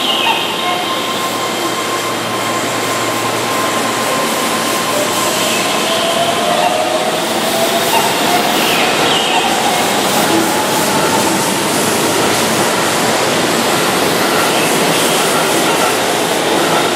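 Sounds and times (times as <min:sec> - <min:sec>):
electric train running: 0:00.0 - 0:16.9.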